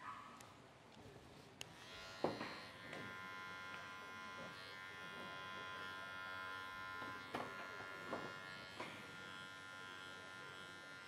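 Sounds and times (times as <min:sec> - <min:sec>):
electric clippers buzzing: 0:01.7 - 0:11.0.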